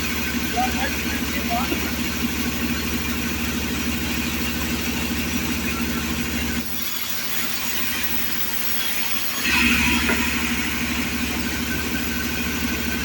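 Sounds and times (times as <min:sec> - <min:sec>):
engine humming: 0:00.0 - 0:06.8, 0:07.4 - 0:13.0.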